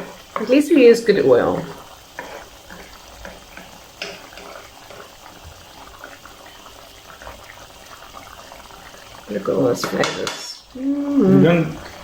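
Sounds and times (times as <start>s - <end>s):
gravy bubbling and spluttering: 0.0s - 9.8s, 10.6s - 12.0s.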